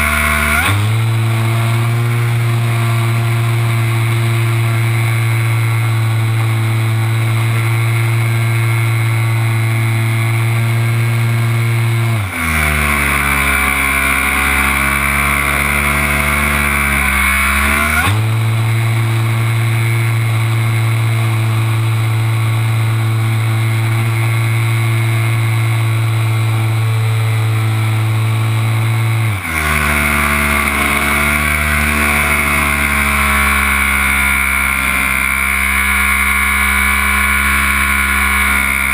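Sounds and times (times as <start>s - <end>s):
model plane motor droning: 0.0s - 38.9s.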